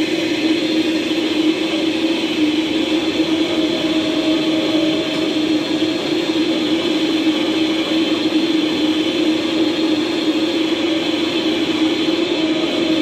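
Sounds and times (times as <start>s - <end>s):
metal lathe cutting: 0.0s - 13.0s.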